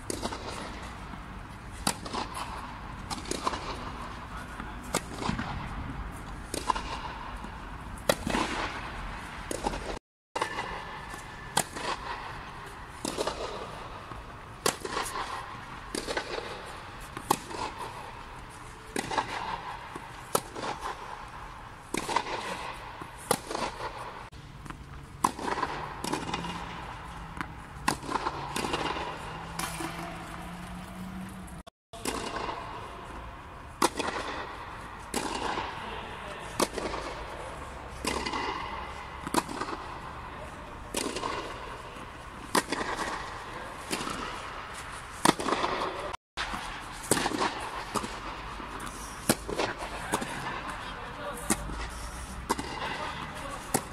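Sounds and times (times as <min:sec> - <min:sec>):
tennis balls struck by rackets: 0:00.0 - 0:53.9.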